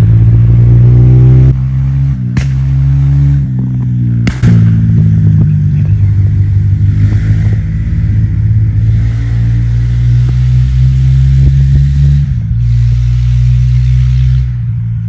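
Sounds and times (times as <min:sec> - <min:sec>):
dirt bike engine running: 0:00.0 - 0:15.0
dirt bike backfiring bang: 0:01.6 - 0:14.8.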